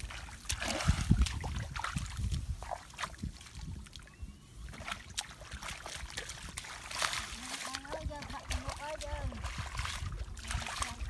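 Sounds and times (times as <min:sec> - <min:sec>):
bare feet splashing through mud: 0:00.0 - 0:11.0.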